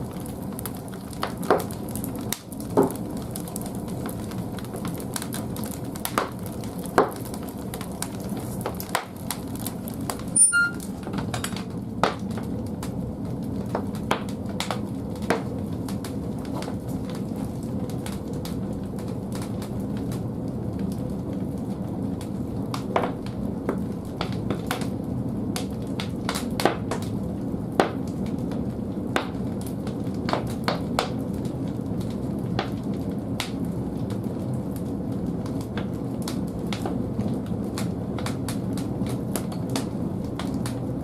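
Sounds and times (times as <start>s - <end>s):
firewood burning with crackles: 0.0s - 41.0s.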